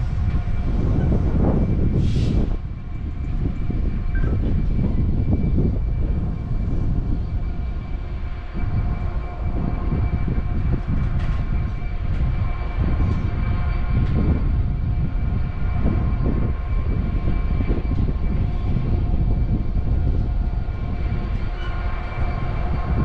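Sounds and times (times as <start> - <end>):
diesel locomotive engine rumble: 0.0 - 23.0.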